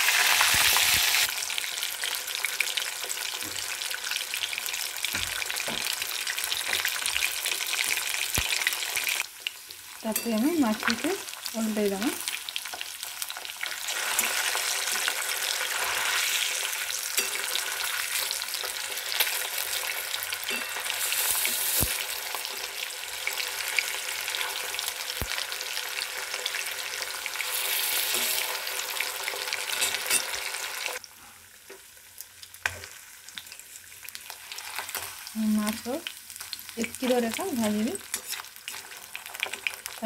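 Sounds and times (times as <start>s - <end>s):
fish sizzling in hot oil: 0.0s - 40.0s.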